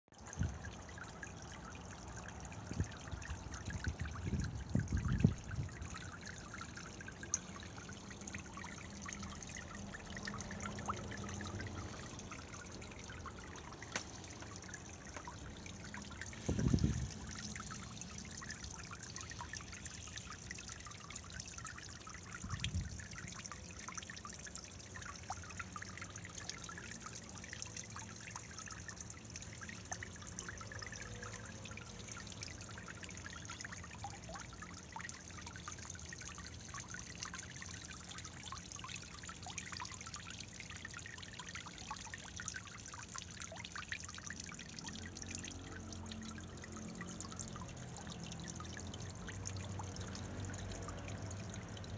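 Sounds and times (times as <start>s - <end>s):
fountain water splashing: 0.2s - 51.9s.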